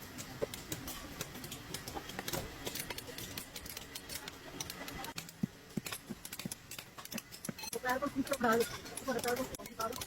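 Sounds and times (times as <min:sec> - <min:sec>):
hand tools tapping metal: 0:00.0 - 0:10.0.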